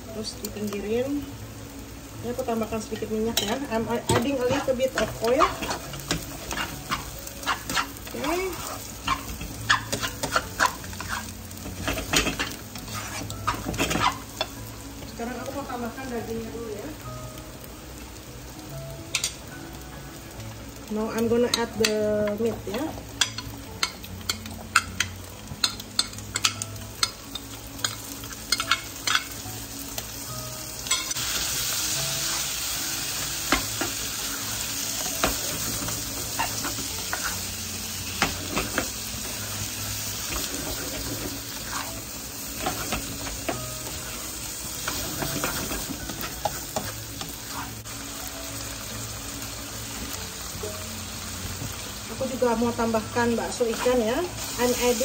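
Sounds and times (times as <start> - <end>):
food frying sizzle: 0.0 - 55.0.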